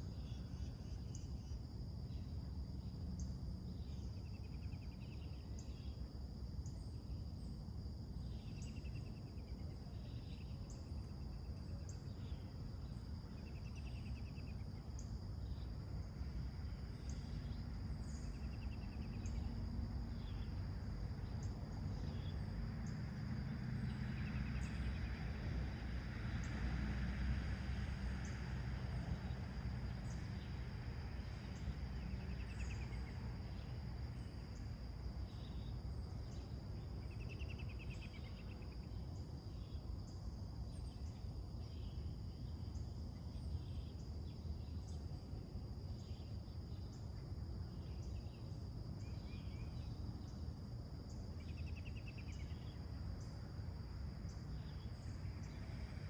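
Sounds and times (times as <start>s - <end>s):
crickets chirping: 0.0s - 56.0s
low background rumble: 0.0s - 56.0s.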